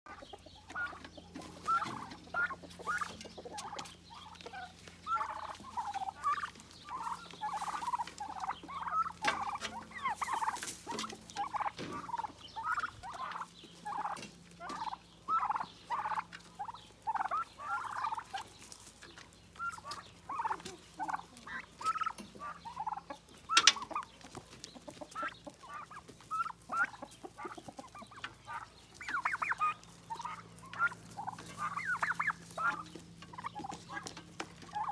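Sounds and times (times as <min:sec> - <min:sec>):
turkeys calling: 0:00.1 - 0:34.9.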